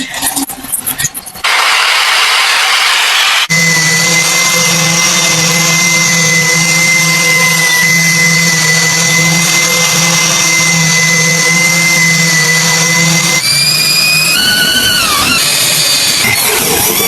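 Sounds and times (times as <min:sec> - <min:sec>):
electric power tool whining: 0:01.4 - 0:17.0.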